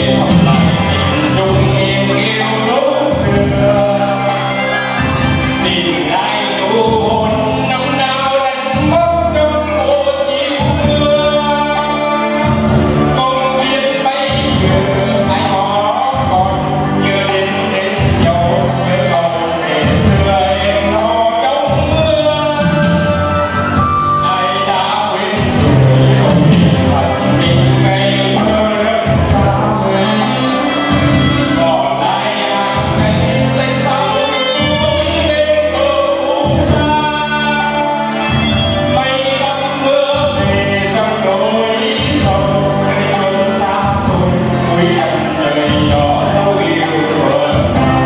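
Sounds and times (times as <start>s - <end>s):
keyboard: 0.0s - 48.0s
man singing into a microphone: 0.0s - 48.0s
saxophone: 0.0s - 48.0s
steady beat: 0.0s - 48.0s.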